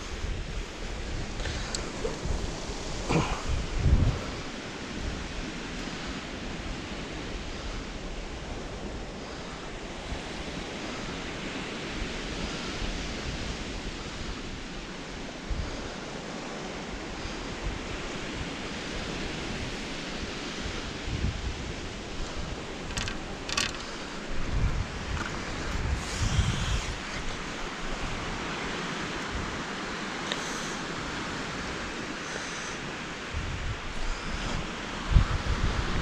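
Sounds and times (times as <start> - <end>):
sea waves on a shingle beach: 0.0 - 36.0
wind buffeting microphone: 0.0 - 36.0.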